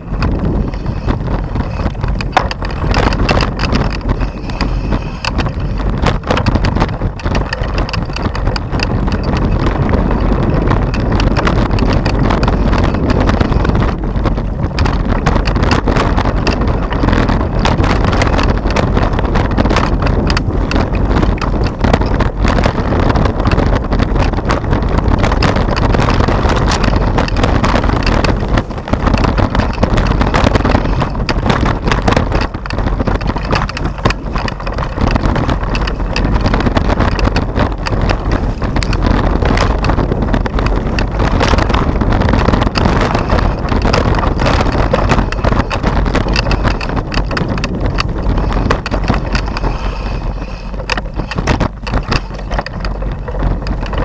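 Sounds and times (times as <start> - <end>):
bike frame rattling and knocking: 0.0 - 54.0
tyre noise: 0.0 - 54.0
wind buffeting microphone: 0.0 - 54.0.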